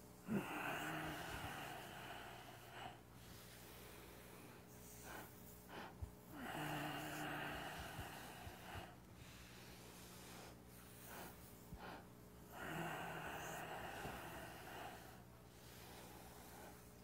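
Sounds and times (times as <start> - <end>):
person breathing slowly: 0.2 - 17.0.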